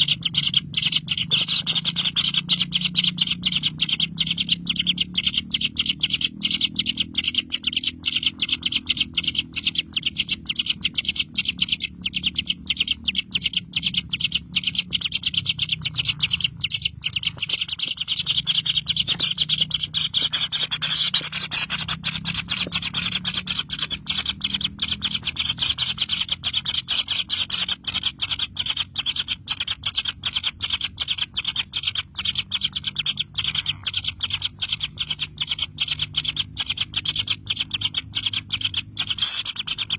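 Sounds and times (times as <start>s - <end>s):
birds rasping chatter: 0.0s - 39.9s.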